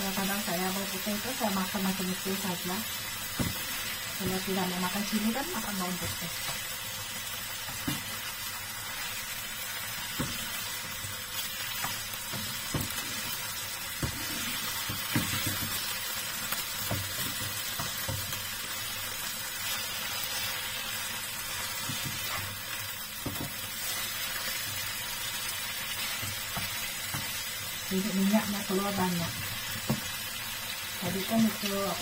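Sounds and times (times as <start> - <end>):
fish sizzling in a frying pan: 0.0 - 32.0.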